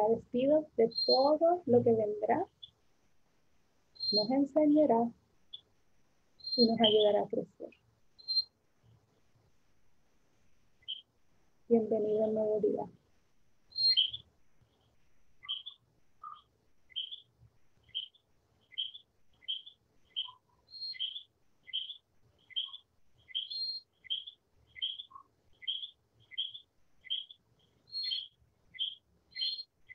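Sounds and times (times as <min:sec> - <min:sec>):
bird chirping: 0:00.0 - 0:02.9, 0:03.9 - 0:09.6, 0:10.7 - 0:12.8, 0:13.6 - 0:29.9.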